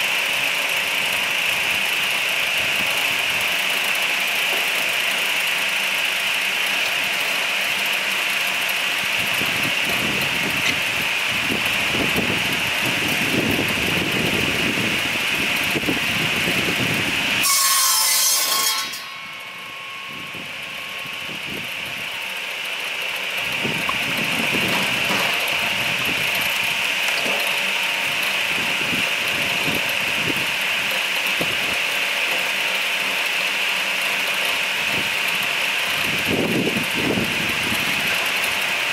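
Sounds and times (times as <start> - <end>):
saw cutting log whine: 0.0 - 38.9.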